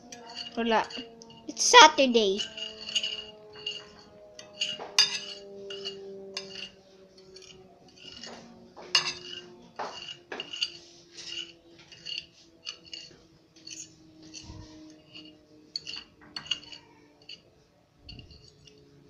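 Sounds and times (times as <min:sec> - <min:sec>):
fork scraping and clinking on glass: 0:00.0 - 0:01.5, 0:02.4 - 0:18.8.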